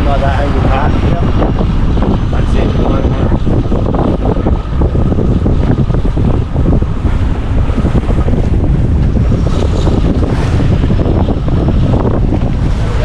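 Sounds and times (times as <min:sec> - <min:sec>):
sea water rushing around hull: 0:00.0 - 0:13.0
wind buffeting microphone: 0:00.0 - 0:13.0.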